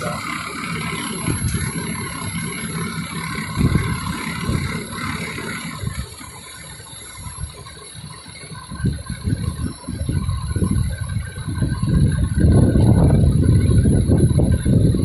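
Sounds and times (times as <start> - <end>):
fire engine motor running: 0.0 - 15.0
low rumbles: 0.0 - 15.0.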